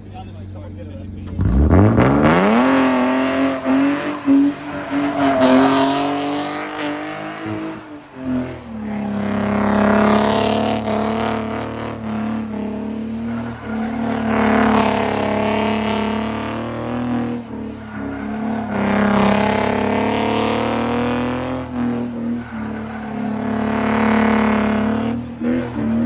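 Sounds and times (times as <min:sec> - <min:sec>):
car engine accelerating: 0:00.0 - 0:26.0
road noise: 0:00.0 - 0:26.0.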